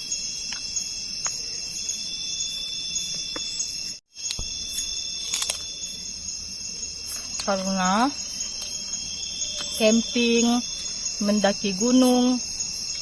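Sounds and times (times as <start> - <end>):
crickets and insects trilling: 0.0 - 13.0.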